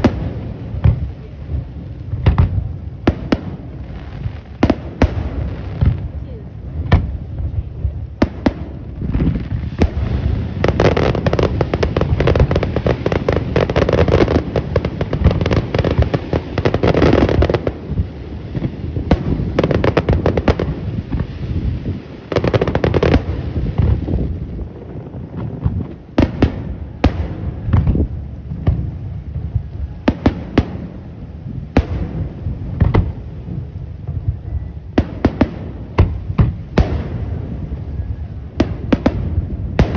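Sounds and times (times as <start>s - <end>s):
firework bangs and booms: 0.0s - 39.9s
firework crackling: 0.0s - 39.9s.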